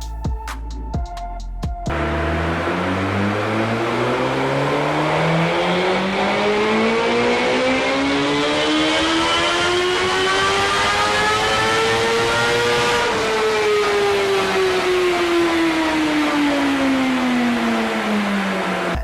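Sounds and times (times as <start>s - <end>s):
motorcycle engine revving: 1.9s - 19.0s.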